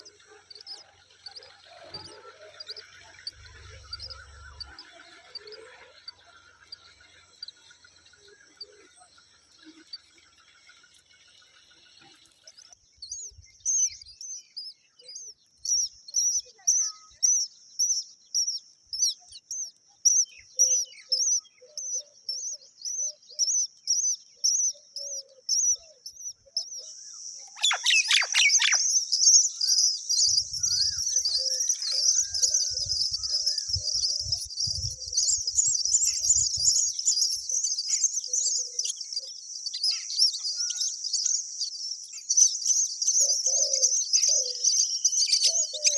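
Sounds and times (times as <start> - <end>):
myna birds chirping: 0.0 - 45.9.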